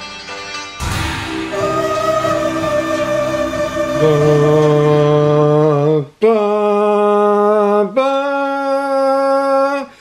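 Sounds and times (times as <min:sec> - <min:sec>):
person singing long notes: 0:01.4 - 0:09.9.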